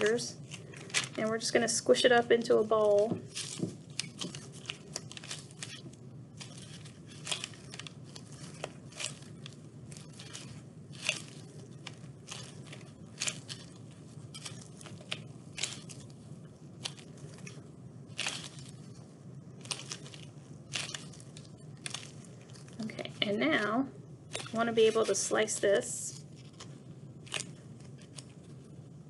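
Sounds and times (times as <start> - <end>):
sticky clay crackling: 0.0 - 29.0.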